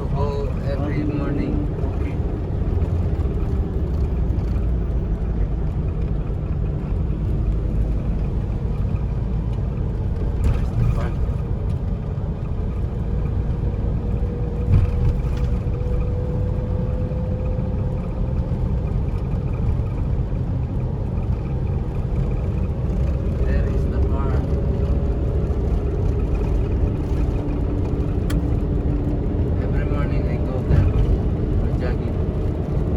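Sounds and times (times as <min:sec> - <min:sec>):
car engine and tyre rumble: 0:00.0 - 0:32.9.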